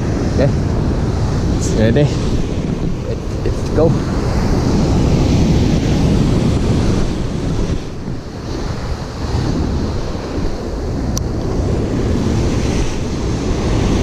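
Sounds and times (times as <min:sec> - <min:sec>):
sea waves washing: 0:00.0 - 0:14.0
wind buffeting microphone: 0:00.0 - 0:14.0.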